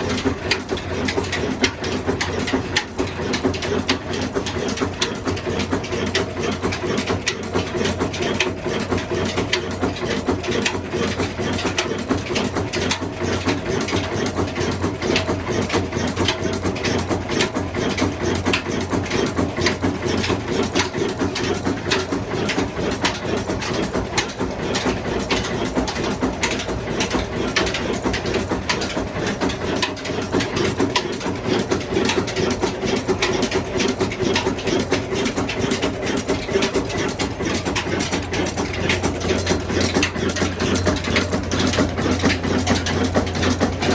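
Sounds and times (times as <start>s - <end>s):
stationary diesel engine clattering: 0.0s - 43.9s.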